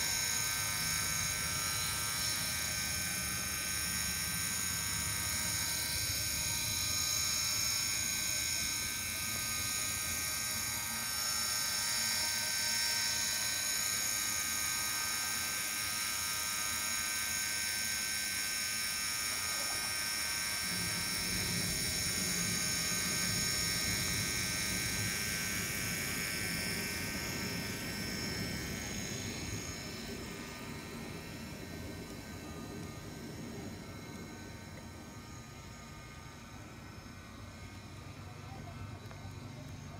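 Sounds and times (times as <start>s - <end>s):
model locomotive motor whine: 0.0s - 39.9s.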